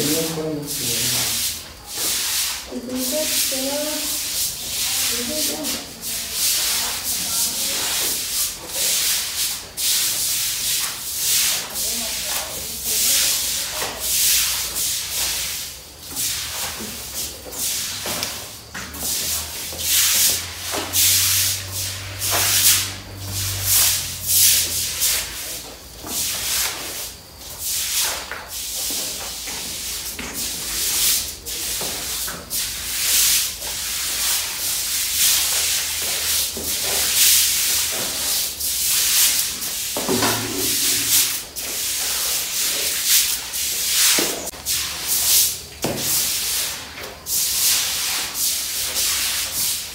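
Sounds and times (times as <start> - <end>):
brooms scrubbing wet concrete: 0.0 - 49.9.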